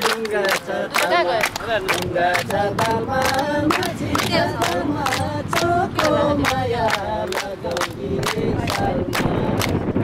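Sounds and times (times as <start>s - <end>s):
group singing unaccompanied: 0.0s - 10.0s
rhythmic hand clapping: 0.0s - 10.0s.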